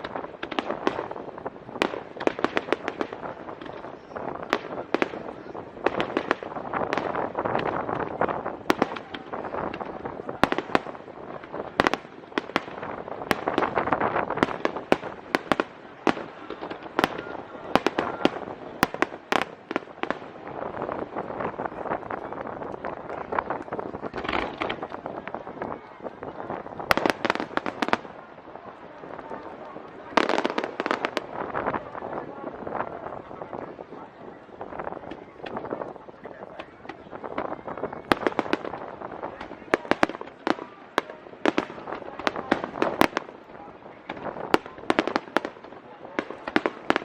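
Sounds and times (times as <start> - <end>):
fireworks bursting: 0.0 - 47.0
fireworks crackle: 0.0 - 47.0.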